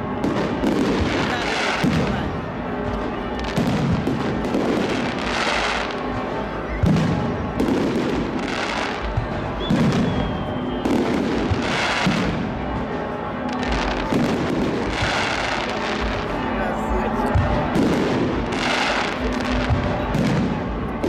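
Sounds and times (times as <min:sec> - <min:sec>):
firework booms and crackling: 0:00.0 - 0:21.0.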